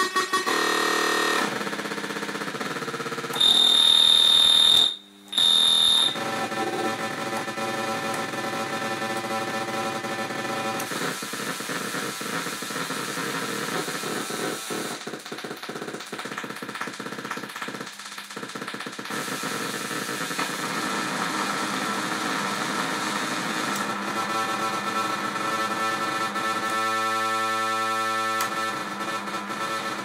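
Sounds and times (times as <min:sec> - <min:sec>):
electronic noise machine: 0:00.0 - 0:30.0.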